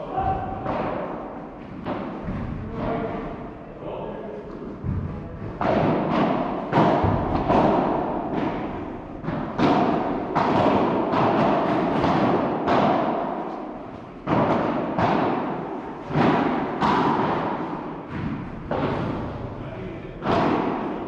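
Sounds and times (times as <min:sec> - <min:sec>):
rackets hitting ball in hall: 0:00.0 - 0:21.0.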